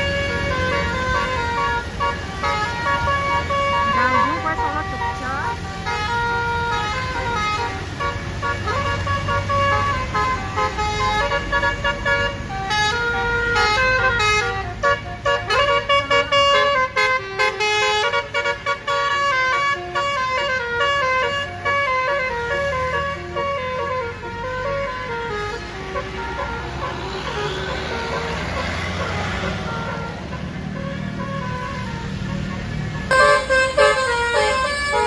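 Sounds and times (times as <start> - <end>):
musical air horn playing tune: 0.0 - 35.0.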